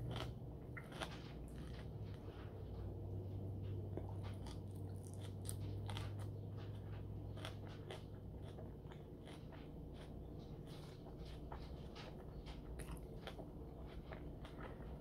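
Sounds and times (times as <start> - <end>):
person chewing and biting food: 0.0 - 15.0.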